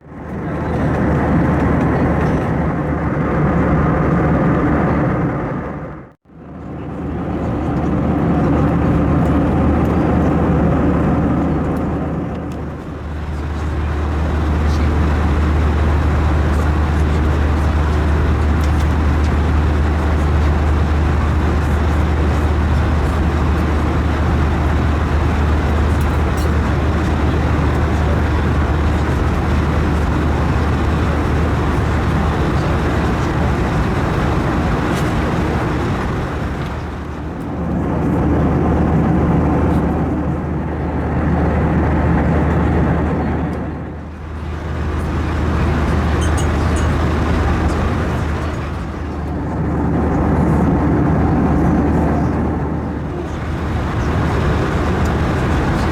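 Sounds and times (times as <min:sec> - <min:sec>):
airliner engine hum: 0:00.0 - 0:55.9.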